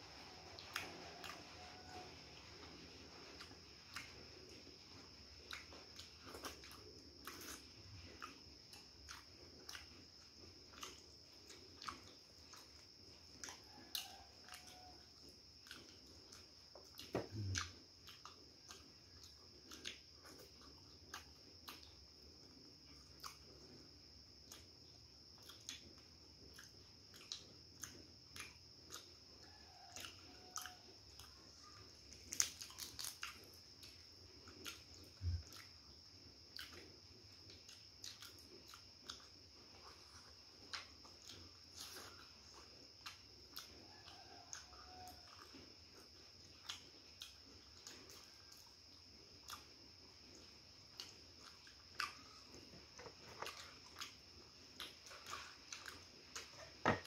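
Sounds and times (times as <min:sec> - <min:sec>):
faint high-pitched whine: 0:00.0 - 0:57.0
chewing crunches: 0:00.2 - 0:57.0.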